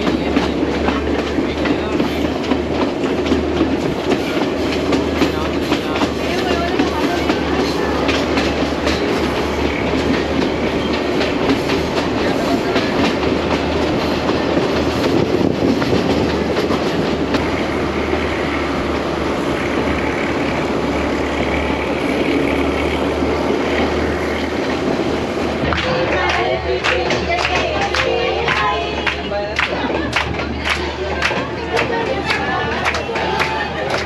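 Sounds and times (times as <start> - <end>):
rush of wind and carriage noise: 0.0 - 34.0
train wheels clacking over rail joints: 0.0 - 34.0.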